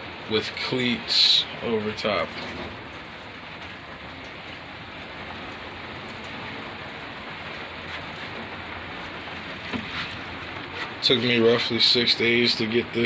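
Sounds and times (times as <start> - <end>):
rain on a truck roof: 0.0 - 13.0.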